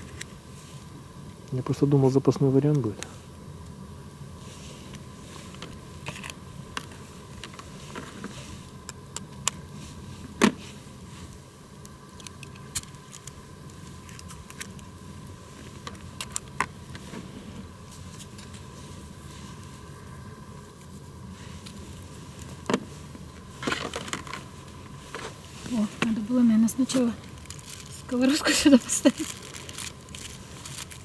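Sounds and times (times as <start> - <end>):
campfire crackling: 0.0 - 31.0
low background noise: 0.0 - 31.0.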